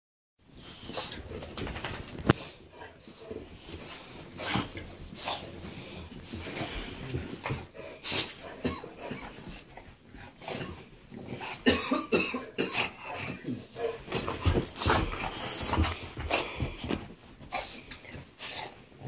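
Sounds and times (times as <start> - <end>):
dog snuffling breaths: 2.2 - 11.7, 12.8 - 19.0.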